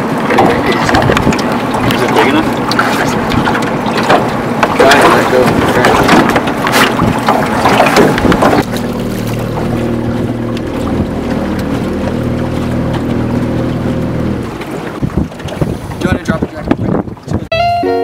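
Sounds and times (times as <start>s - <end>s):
outboard motor idling: 0.0s - 17.6s
wind and handling noise: 0.0s - 17.6s.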